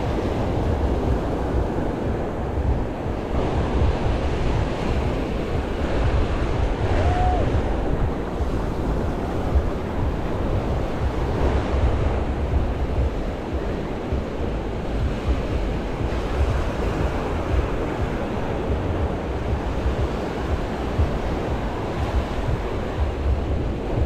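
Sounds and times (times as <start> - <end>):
ocean surf breaking on beach: 0.0 - 24.0
wind buffeting microphone: 0.0 - 24.0.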